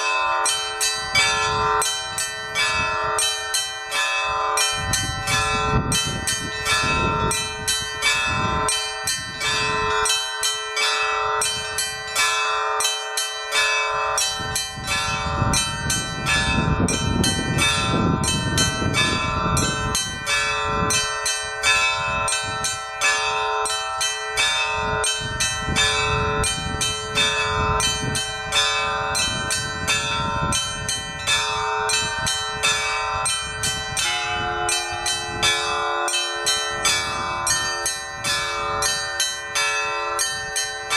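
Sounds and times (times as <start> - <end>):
hum of large bells: 0.0 - 40.9.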